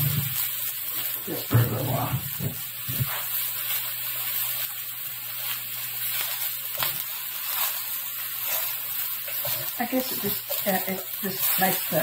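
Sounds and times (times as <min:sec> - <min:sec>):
lemon halves sizzling in skillet: 0:00.0 - 0:12.0.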